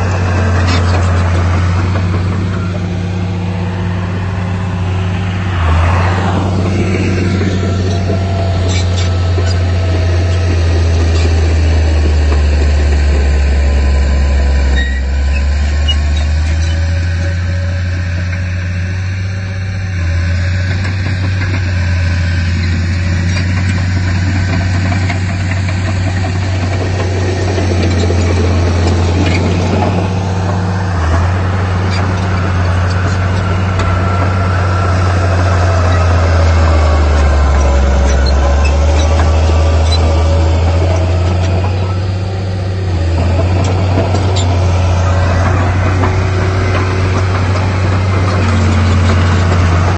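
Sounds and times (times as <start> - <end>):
heavy diesel engine drone: 0.0 - 49.9.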